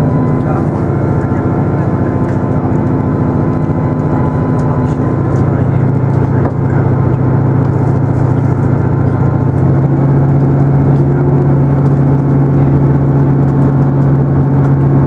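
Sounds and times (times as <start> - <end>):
diesel engine droning: 0.0 - 15.0
wheels rumbling on track: 0.0 - 15.0.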